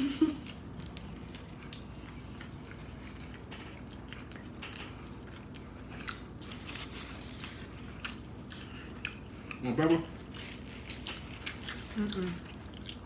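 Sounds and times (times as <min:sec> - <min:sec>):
chewing and biting food: 0:00.4 - 0:13.0.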